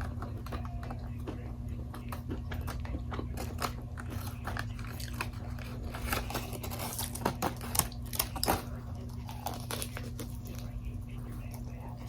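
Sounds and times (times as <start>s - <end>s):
steady low hum: 0.0s - 12.0s
crunchy biting and chewing: 2.1s - 12.0s.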